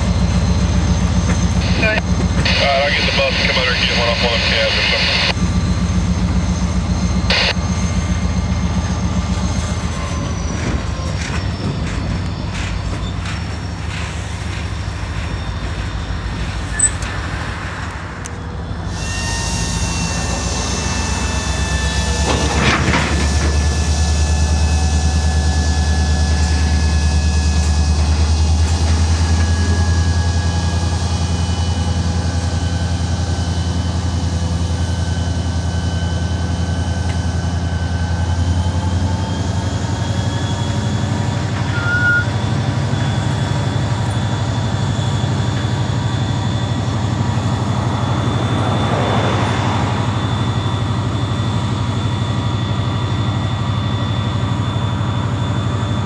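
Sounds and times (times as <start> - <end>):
diesel locomotive drone: 0.0 - 56.0
freight train cars rolling on rails: 0.0 - 56.0.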